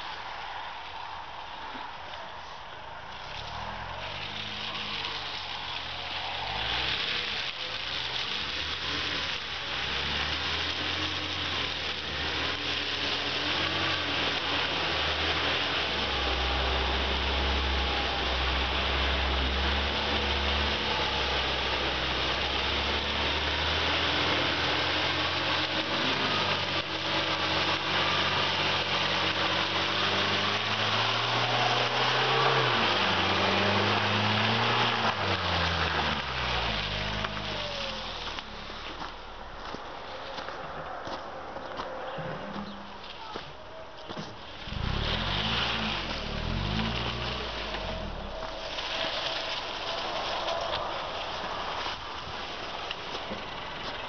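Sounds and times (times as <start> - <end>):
car engine labouring: 0.0 - 54.0.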